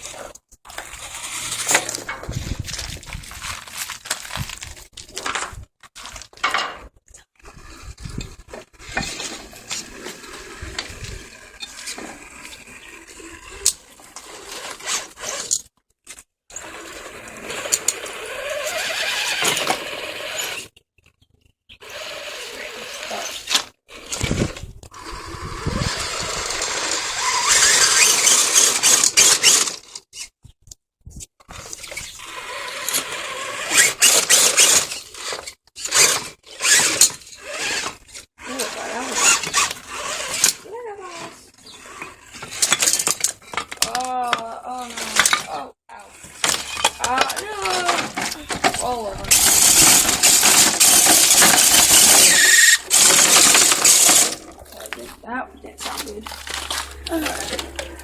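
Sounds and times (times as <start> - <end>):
toy truck scraping over rough ground: 0.0 - 58.0.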